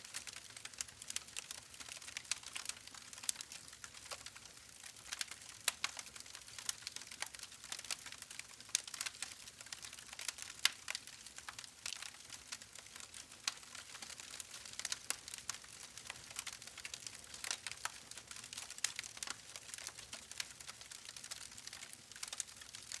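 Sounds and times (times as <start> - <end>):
campfire crackling and popping: 0.1 - 23.0.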